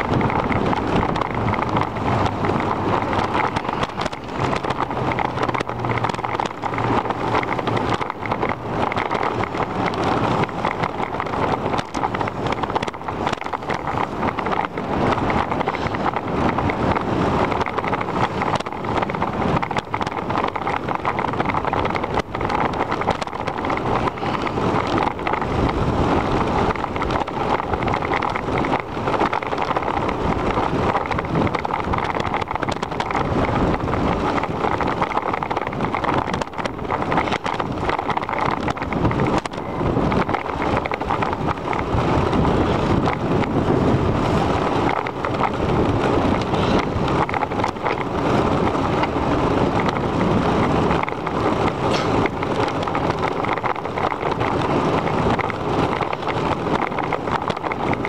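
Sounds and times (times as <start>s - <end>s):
bike knocks and rattles: 0.0s - 58.0s
wind buffeting microphone: 0.0s - 58.0s.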